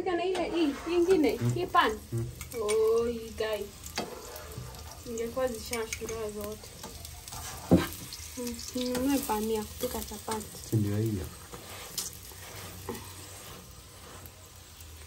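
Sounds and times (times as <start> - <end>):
flatbread sizzling in oil: 0.4 - 15.0.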